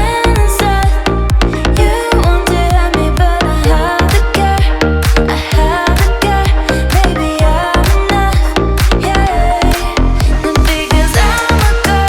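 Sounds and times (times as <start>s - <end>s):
electronic dance-pop music: 0.0s - 12.0s.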